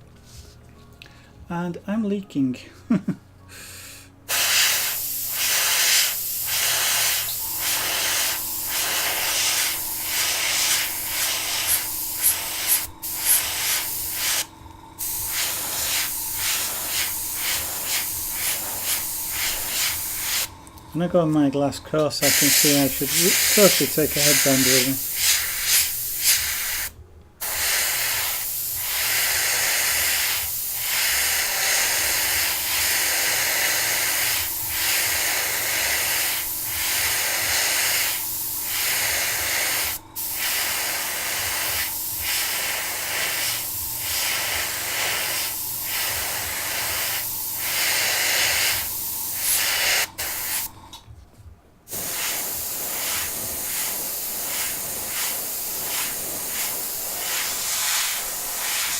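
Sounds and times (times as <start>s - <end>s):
airbrush hissing: 3.8s - 51.0s, 51.9s - 58.9s.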